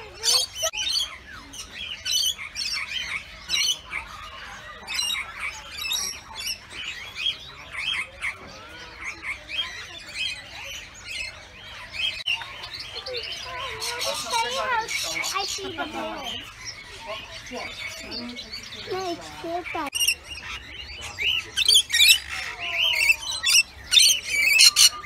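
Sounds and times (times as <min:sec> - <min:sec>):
many small birds chirping: 0:00.0 - 0:25.0.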